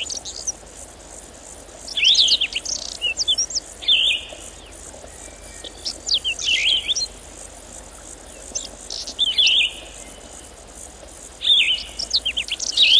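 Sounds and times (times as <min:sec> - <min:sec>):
steady high hiss: 0:00.0 - 0:12.9.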